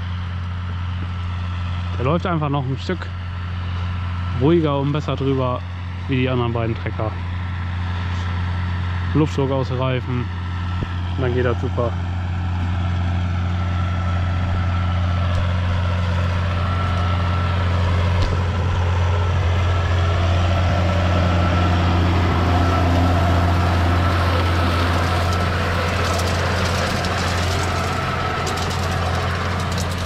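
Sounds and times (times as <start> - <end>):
thin steady whine: 0.0 - 30.0
tractor engine under load: 0.0 - 30.0.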